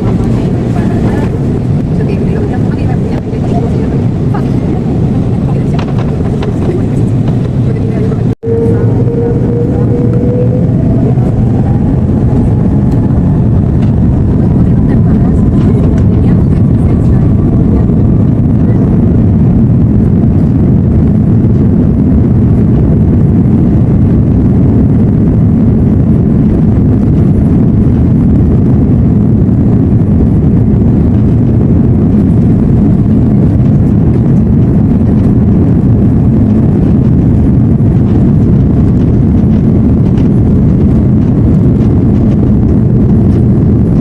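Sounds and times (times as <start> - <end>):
airliner cabin low rumble: 0.0 - 44.0.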